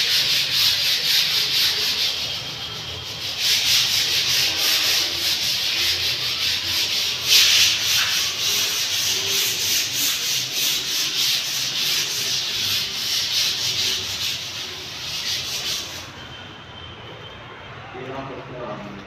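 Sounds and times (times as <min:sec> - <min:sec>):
fast rubbing scraping: 0:00.0 - 0:16.4.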